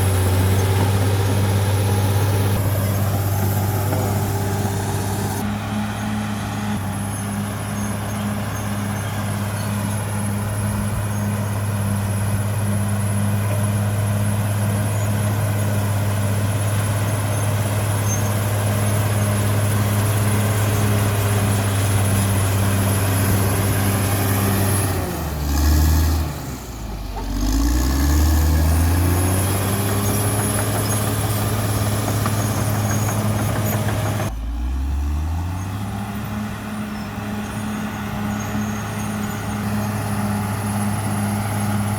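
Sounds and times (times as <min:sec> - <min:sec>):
bulldozer diesel engine revving: 0:00.0 - 0:41.9.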